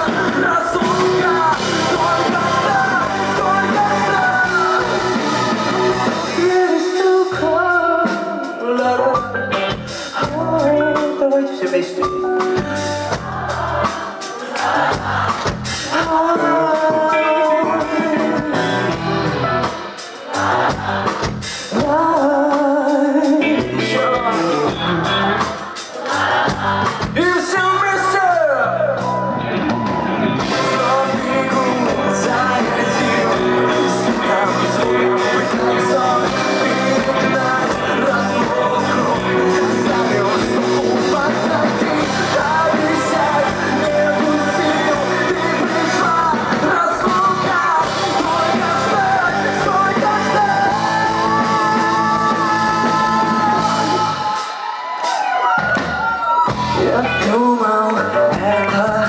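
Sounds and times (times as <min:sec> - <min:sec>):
lead singer singing: 0:00.0 - 0:59.0
live rock band playing: 0:00.0 - 0:59.0.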